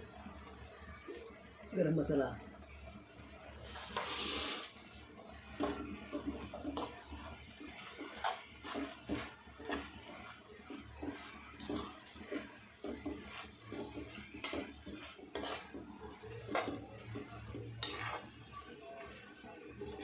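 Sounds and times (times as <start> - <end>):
spatula clinking and scraping pan: 3.6 - 20.0.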